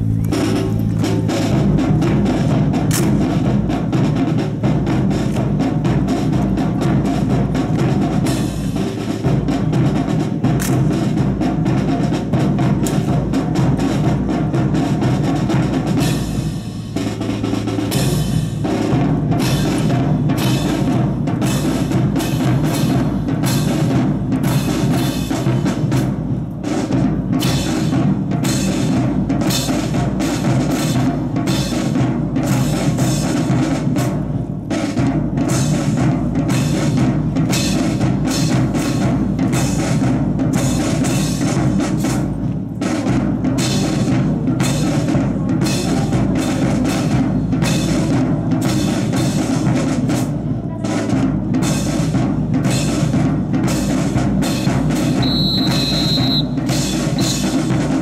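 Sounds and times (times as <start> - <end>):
marching drum beat: 0.0 - 58.0.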